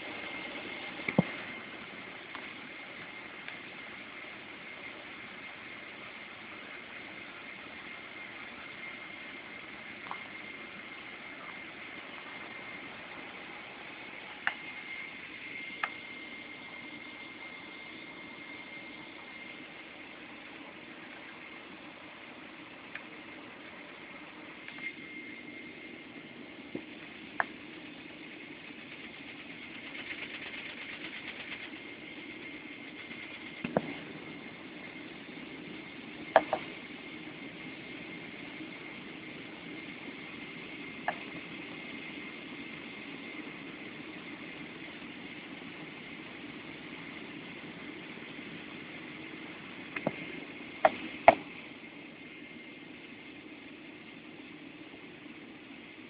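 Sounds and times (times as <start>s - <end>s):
faint fast rattle: 0.0s - 54.6s
jet engine hum with high whine: 0.0s - 56.0s.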